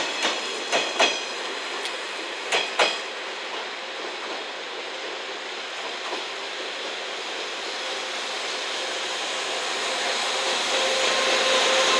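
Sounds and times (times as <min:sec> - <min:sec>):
train rushing on rails: 0:00.0 - 0:11.9.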